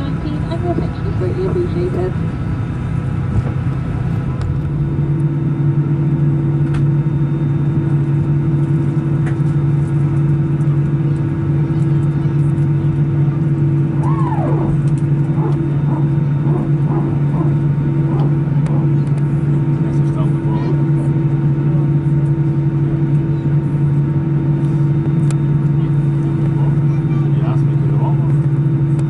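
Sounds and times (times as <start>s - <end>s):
aircraft cabin drone: 0.0s - 29.0s.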